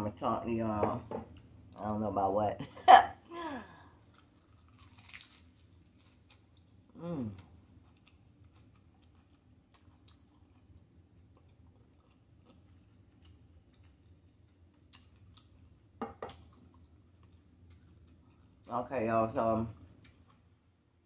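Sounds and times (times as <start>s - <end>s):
faint chewing of crunchy food: 3.7s - 20.7s.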